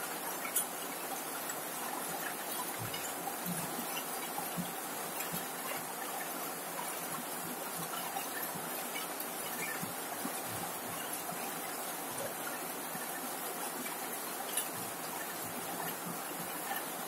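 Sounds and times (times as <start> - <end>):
rain on a metal roof: 0.0 - 17.0.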